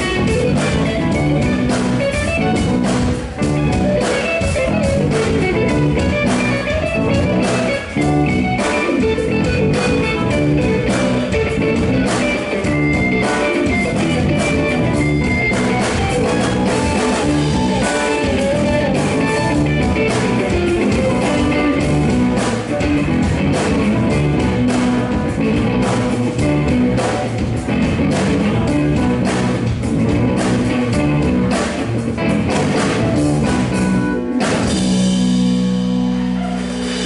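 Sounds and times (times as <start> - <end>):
live band instrumental music: 0.0 - 37.0.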